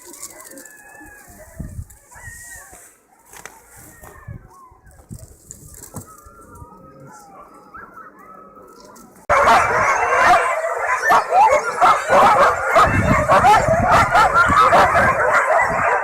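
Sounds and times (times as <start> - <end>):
huskies yelping and howling: 0.0 - 5.1, 5.9 - 16.0.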